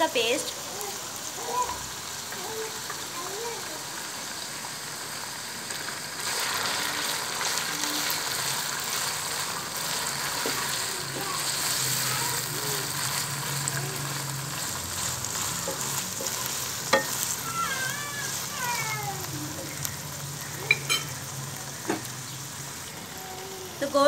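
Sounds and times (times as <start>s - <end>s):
food sizzling in oil: 0.0s - 24.0s.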